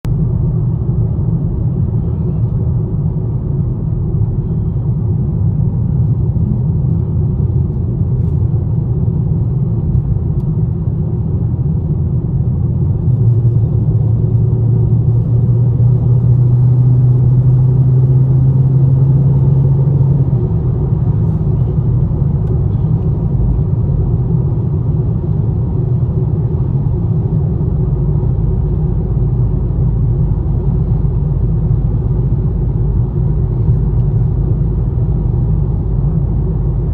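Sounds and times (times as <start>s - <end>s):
car engine low rumble: 0.0s - 36.9s.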